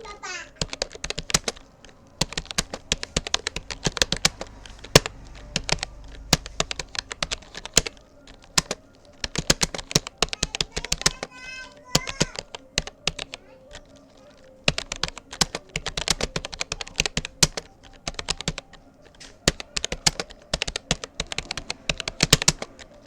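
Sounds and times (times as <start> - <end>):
keyboard key clicks: 0.6 - 11.3, 11.9 - 23.0.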